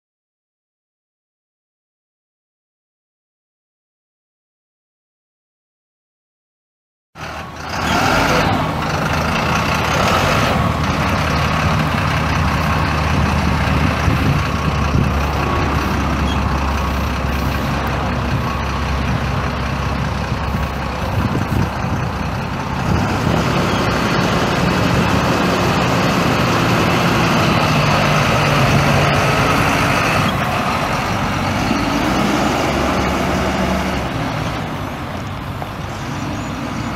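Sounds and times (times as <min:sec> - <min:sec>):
diesel bus engine running: 0:07.2 - 0:36.9.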